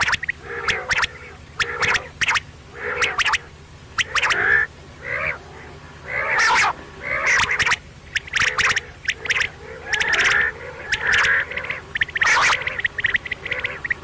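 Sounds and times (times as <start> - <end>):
quail calling: 0.0 - 14.0.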